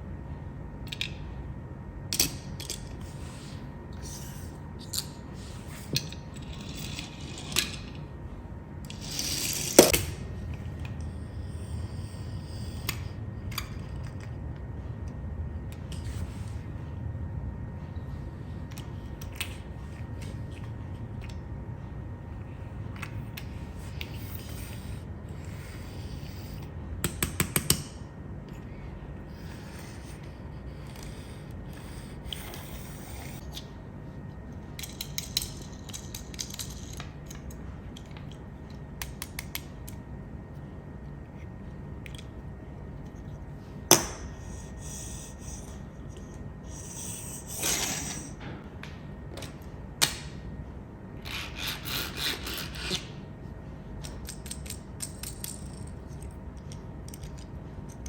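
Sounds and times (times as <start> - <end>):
low hum: 0.0 - 27.0, 28.0 - 58.0.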